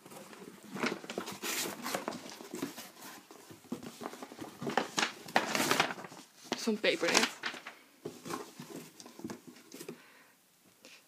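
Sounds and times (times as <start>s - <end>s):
package rustling and handling: 0.0s - 10.0s.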